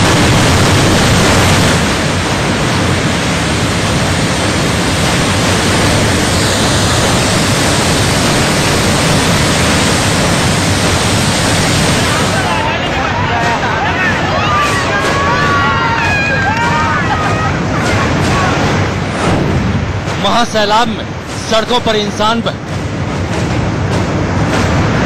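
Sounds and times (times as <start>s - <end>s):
river water roaring over a weir: 0.0s - 25.0s.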